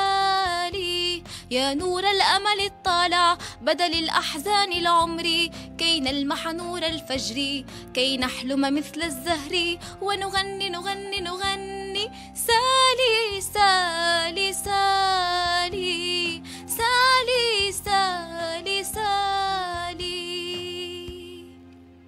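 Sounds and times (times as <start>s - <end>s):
woman singing: 0.0s - 21.6s
instrumental backing track: 0.0s - 22.0s.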